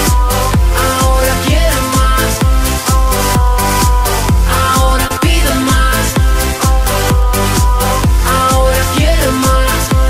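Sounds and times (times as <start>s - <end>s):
electronic dance music: 0.0s - 10.0s
kick drum: 0.0s - 10.0s.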